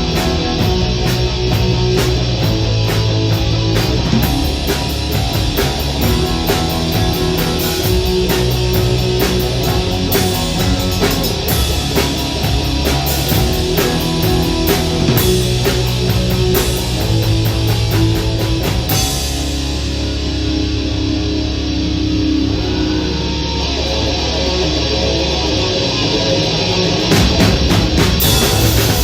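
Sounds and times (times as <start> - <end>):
drum kit: 0.0 - 21.4, 23.4 - 29.0
bass guitar: 0.0 - 29.0
distorted electric guitars: 0.0 - 29.0.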